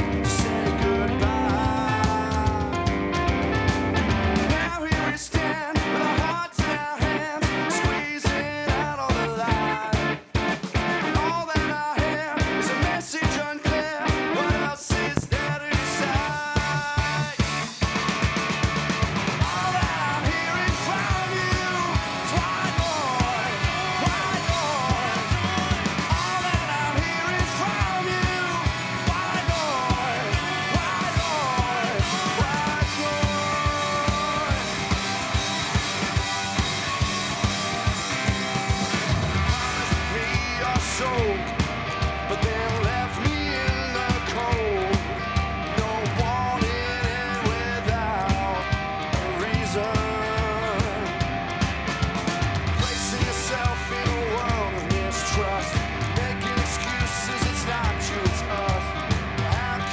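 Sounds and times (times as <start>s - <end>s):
person singing: 0.0s - 3.0s, 4.4s - 17.7s, 19.4s - 41.7s, 42.3s - 51.2s, 52.8s - 59.9s
drums: 0.0s - 59.9s
electric guitar: 0.0s - 59.9s.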